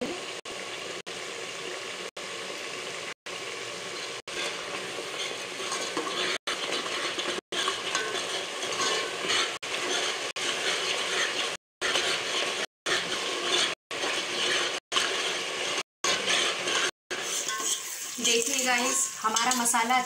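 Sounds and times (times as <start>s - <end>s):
spice paste sizzling in oil: 0.1s - 20.0s
steel ladle scraping pot: 3.9s - 20.0s.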